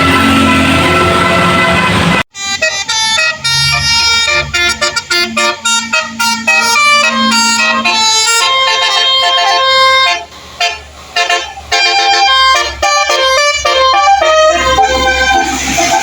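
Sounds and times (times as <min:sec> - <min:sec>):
multi-tone truck horn playing a tune: 0:00.0 - 0:16.0.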